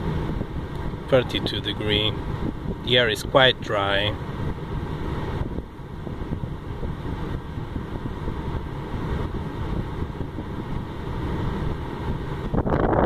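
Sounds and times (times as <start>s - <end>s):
car blower fan rushing air: 0.0s - 13.0s.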